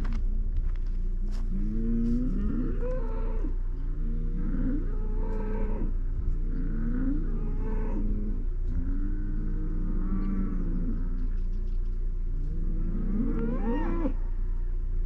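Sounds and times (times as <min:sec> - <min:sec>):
low rumble: 0:00.0 - 0:15.0
animals calling: 0:01.1 - 0:15.0.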